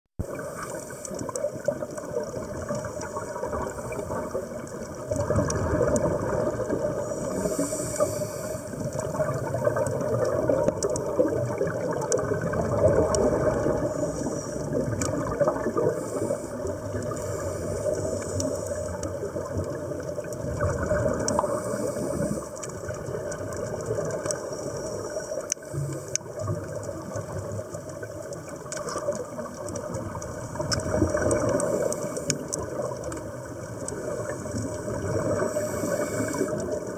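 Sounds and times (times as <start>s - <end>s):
bubbling of exhaled air: 0.2s - 36.9s
muffled underwater water rush: 0.2s - 36.9s.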